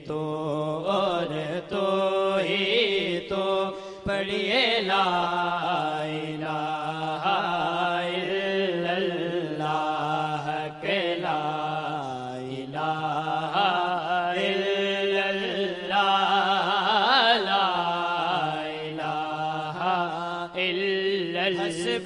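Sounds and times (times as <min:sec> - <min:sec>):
men chanting a hymn: 0:00.0 - 0:22.0.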